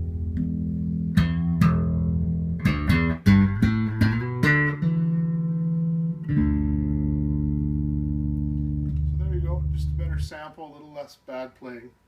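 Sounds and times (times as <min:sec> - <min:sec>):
electric bass plucked notes: 0:00.0 - 0:10.4.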